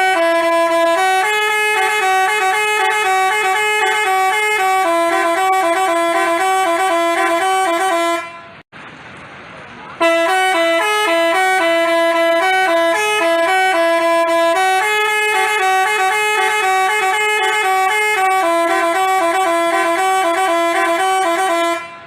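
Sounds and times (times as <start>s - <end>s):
bus horn playing a tune: 0.0s - 8.7s, 10.0s - 22.0s.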